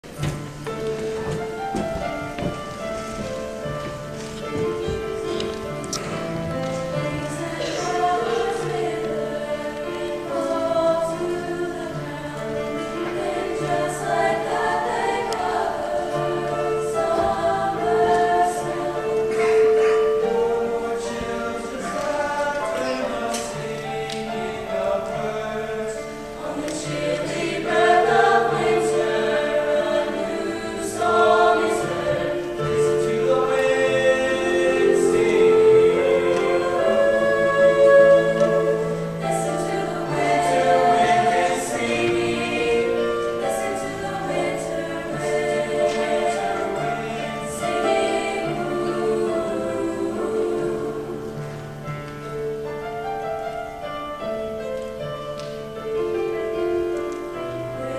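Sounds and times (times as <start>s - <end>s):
mixed choir singing: 0.0s - 52.6s.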